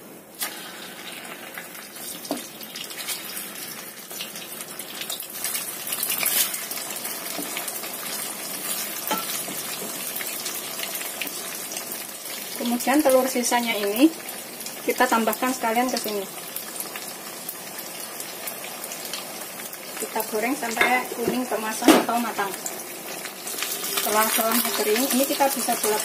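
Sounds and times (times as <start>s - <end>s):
tofu sizzling in hot oil: 0.2s - 26.0s.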